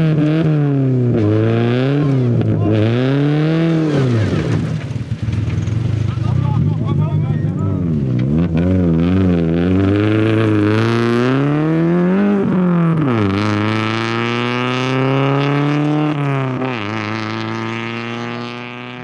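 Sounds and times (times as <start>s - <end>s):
rally car engine accelerating: 0.0s - 19.0s.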